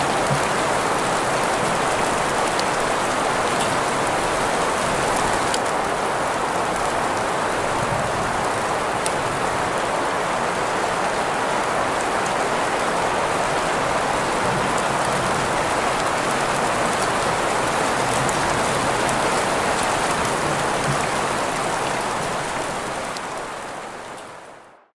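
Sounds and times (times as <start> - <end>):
rain hiss with green noise: 0.0 - 24.9.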